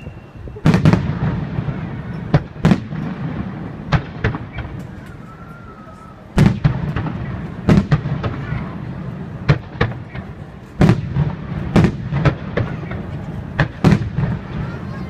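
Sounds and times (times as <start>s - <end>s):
fireworks booming with rumble: 0.5s - 15.0s.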